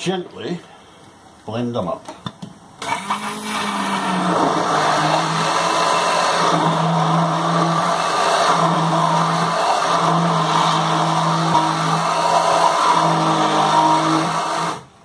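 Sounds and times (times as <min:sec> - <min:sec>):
hand blender running: 0:02.8 - 0:14.9.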